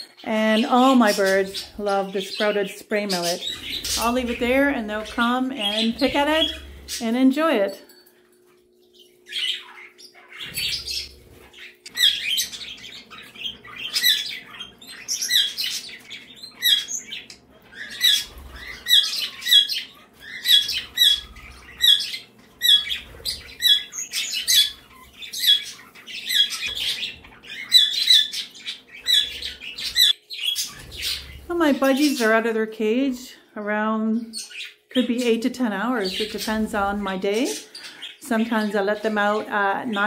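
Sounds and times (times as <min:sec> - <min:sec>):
budgerigars chirping and squawking: 0:00.0 - 0:07.8, 0:08.7 - 0:32.6, 0:34.2 - 0:40.0.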